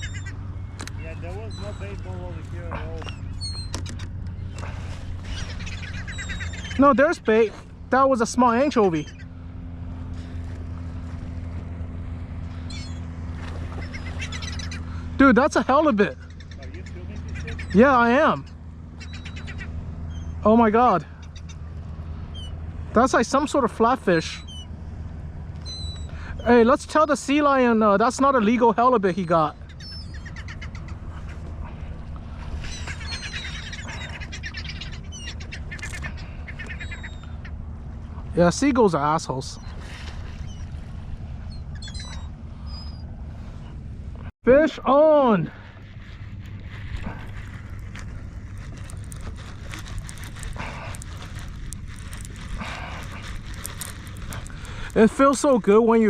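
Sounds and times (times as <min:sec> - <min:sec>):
seagulls calling: 0:00.0 - 0:56.0
steady low hum: 0:00.0 - 0:56.0
steady low rumble: 0:00.0 - 0:56.0.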